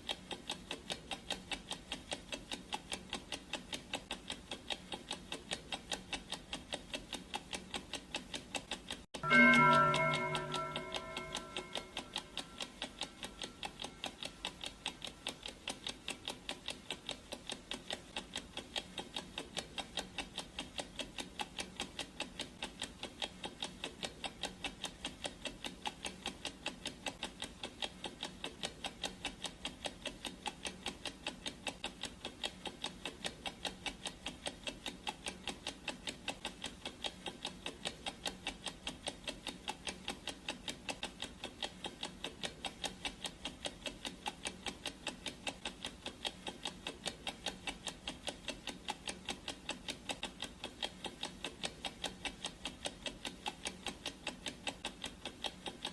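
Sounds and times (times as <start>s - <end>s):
clock ticking: 0.0s - 55.9s.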